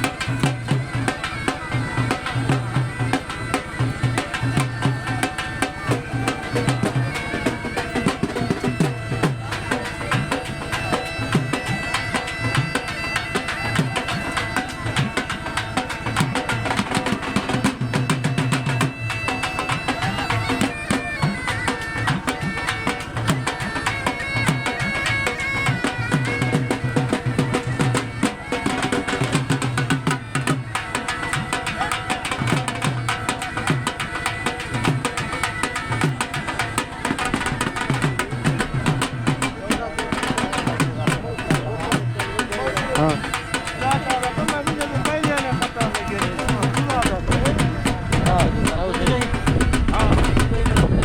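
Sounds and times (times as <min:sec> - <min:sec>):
reedy wind instrument: 0:00.0 - 0:51.0
steady drum beat: 0:00.0 - 0:51.0.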